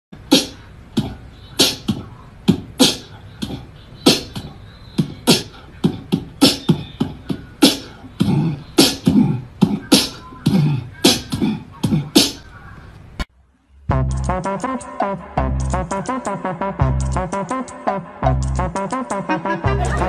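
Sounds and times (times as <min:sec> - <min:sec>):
beatboxing: 0:00.2 - 0:13.2, 0:13.9 - 0:20.0.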